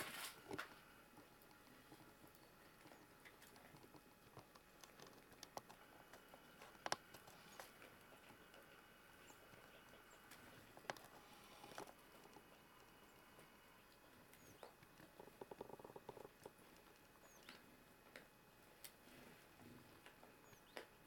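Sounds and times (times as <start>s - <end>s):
faint ticks and taps: 0.5s - 8.8s, 9.4s - 19.0s.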